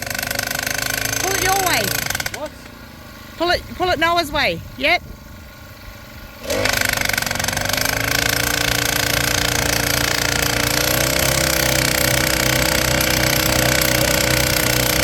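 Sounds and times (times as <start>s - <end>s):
post driver engine running: 0.0s - 15.0s.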